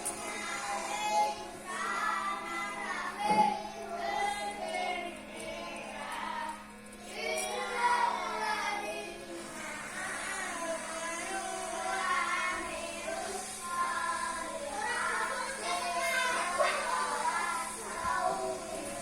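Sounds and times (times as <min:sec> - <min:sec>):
faint steady hum: 0:00.0 - 0:19.0
song with high singing voices: 0:00.0 - 0:19.0.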